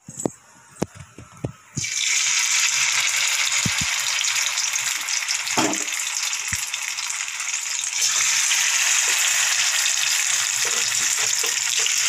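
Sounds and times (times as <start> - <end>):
hot oil sizzling in a pan: 1.8 - 12.0.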